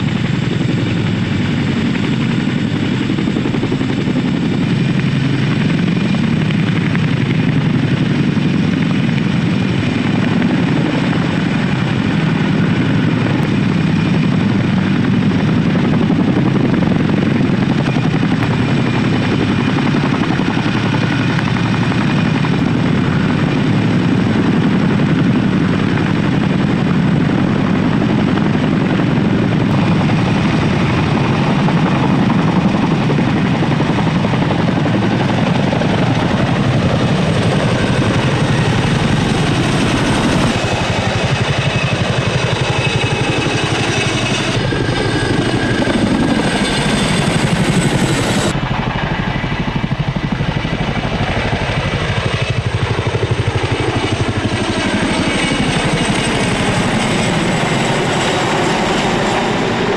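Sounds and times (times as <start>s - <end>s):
helicopter rotor blades beating: 0.0s - 59.9s.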